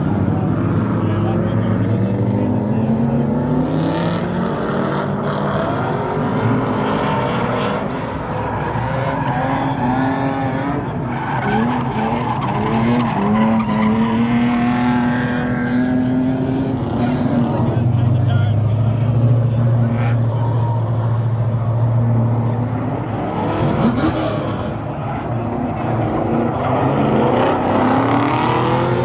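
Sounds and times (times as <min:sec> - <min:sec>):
car engines revving: 0:00.0 - 0:29.0
tyres skidding and squealing: 0:00.0 - 0:29.0.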